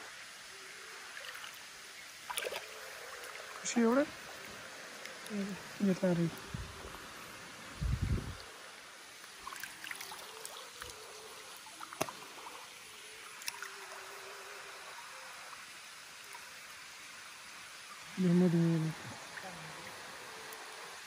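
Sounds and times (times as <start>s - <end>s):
shallow water trickling and splashing: 0.0s - 18.2s, 18.9s - 21.0s.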